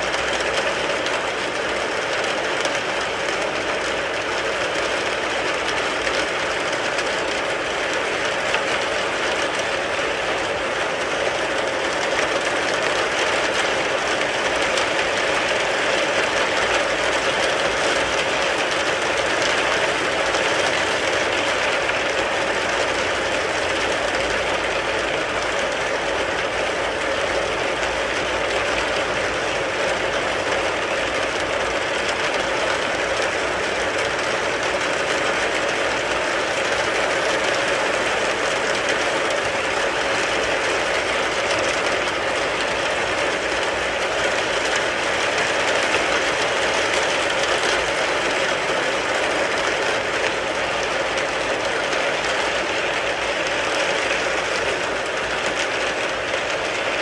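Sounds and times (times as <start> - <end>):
rain on a car: 0.0 - 57.0.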